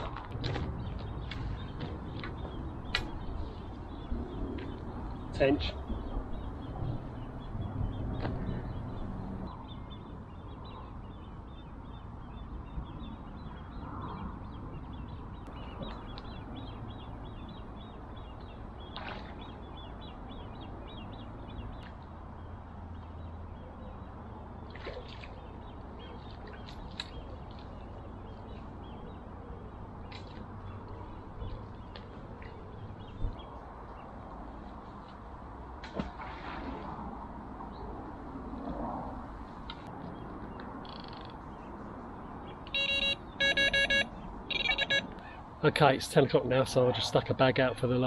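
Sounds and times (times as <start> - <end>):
birds chirping: 0.0 - 35.6, 39.6 - 48.0.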